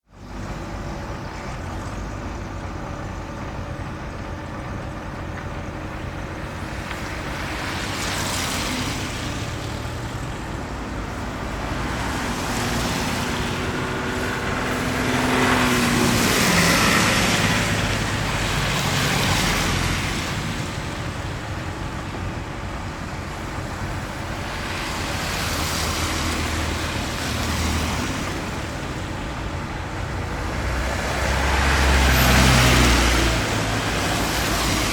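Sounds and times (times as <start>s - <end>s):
road traffic rumble: 0.0s - 34.9s
vehicles passing: 0.1s - 34.9s.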